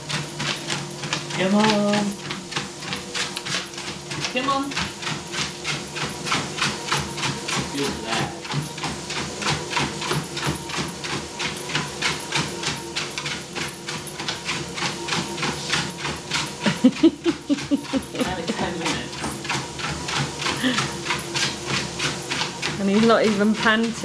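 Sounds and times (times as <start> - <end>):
dog paws trotting on treadmill: 0.0 - 24.0
treadmill hum: 0.0 - 24.0.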